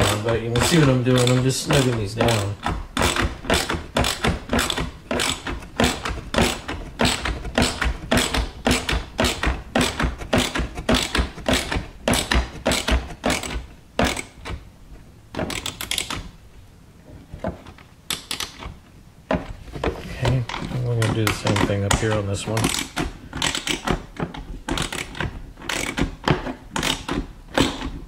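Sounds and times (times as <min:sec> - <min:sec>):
hand ratchet clicking: 0:00.0 - 0:14.6, 0:15.4 - 0:16.3, 0:18.1 - 0:18.7, 0:21.0 - 0:28.0.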